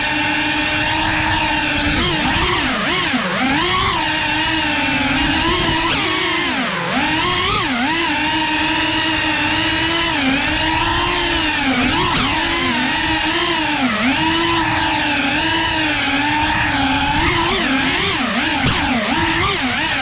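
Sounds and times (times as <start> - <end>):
quadcopter motors: 0.0 - 20.0.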